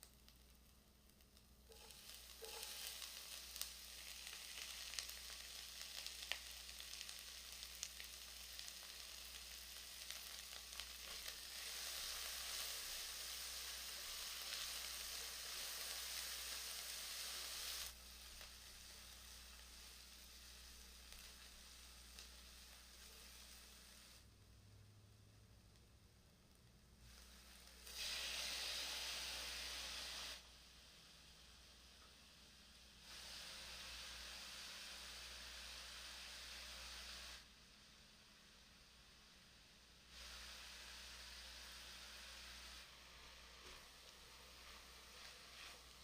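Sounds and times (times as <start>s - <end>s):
vegetables sizzling in oil: 0.0s - 24.8s, 26.4s - 46.0s.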